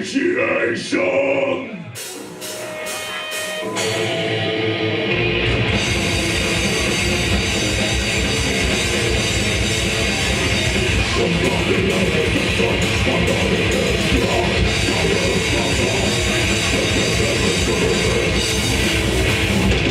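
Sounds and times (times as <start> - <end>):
distorted electric guitars: 0.0 - 19.9.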